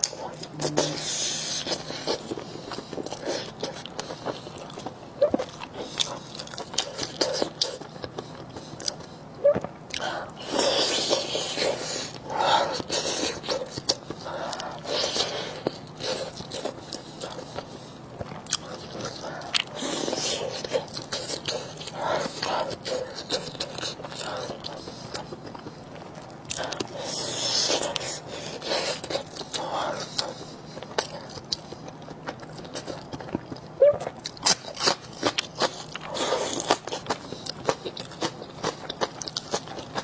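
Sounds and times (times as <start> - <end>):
person chewing soft food: 0.0 - 40.0.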